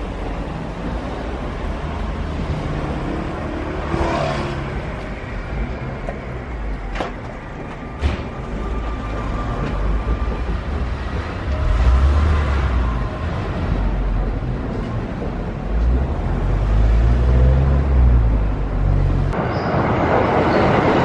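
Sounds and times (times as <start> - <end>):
road traffic: 0.0 - 21.0
train whine: 0.0 - 21.0.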